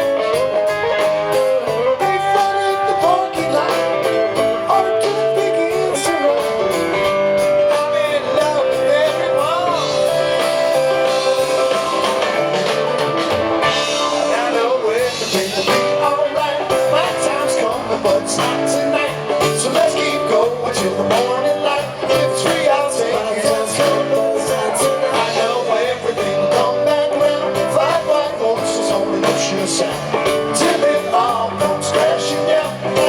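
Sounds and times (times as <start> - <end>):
lead guitar with bent notes: 0.0 - 33.0
rock band playing: 0.0 - 33.0.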